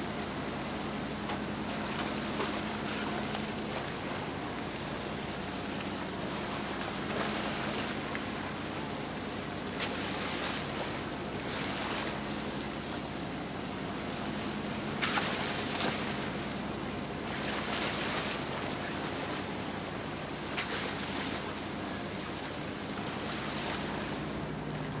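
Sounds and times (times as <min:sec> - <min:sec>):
low engine hum: 0:00.0 - 0:25.0
water splashing along boat hull: 0:00.0 - 0:25.0.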